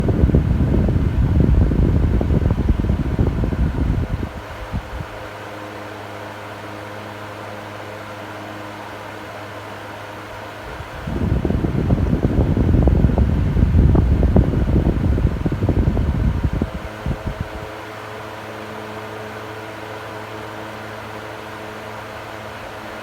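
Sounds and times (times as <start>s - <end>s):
electric fan motor hum: 0.0s - 23.0s
fan air buffeting microphone: 0.0s - 23.0s.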